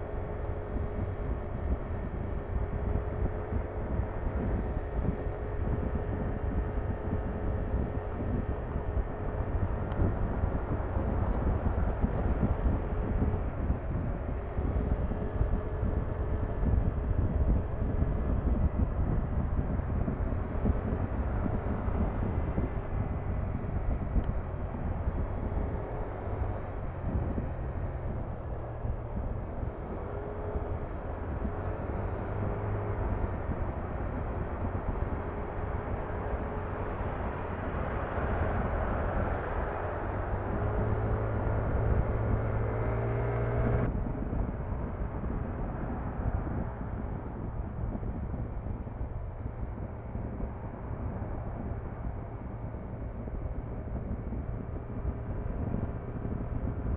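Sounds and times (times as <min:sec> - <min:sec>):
scooter engine running: 0:00.0 - 0:45.9
wind and road rush: 0:00.0 - 0:56.9.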